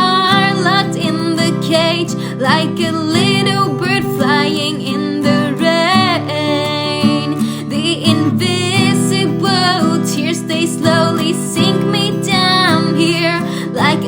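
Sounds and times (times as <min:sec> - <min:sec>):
acoustic guitar: 0:00.0 - 0:14.0
person singing with vibrato: 0:00.0 - 0:14.0.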